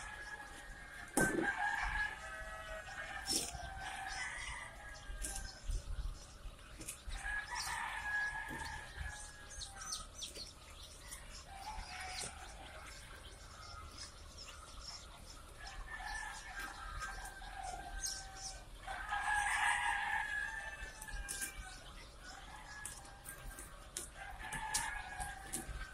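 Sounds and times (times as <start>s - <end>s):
chicks peeping: 0.0s - 25.9s.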